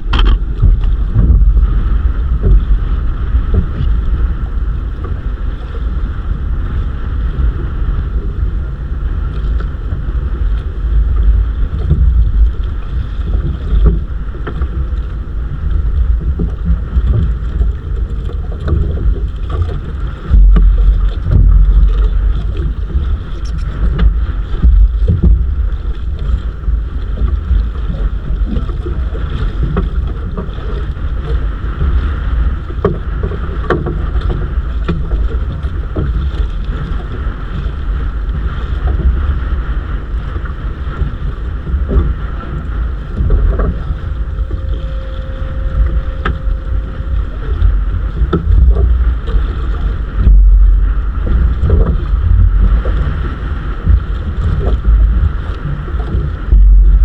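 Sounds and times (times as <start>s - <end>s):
steady boat engine drone: 0.0s - 57.0s
wind buffeting microphone: 0.0s - 57.0s.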